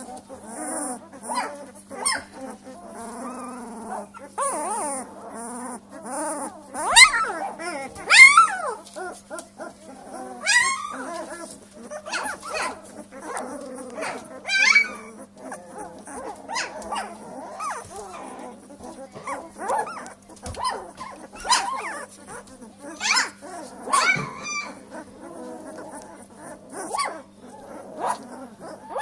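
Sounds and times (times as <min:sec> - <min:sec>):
puppies whimpering and squealing: 0:00.0 - 0:29.0.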